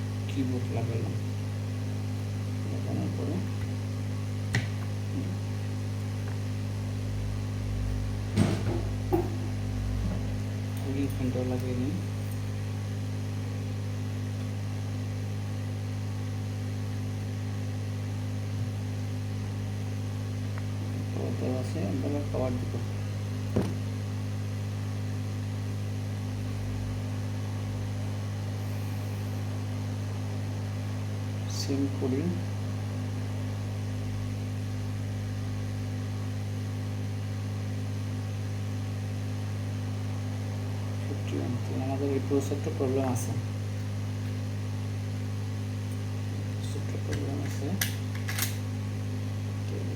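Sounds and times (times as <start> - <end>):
low electrical hum: 0.0 - 49.9.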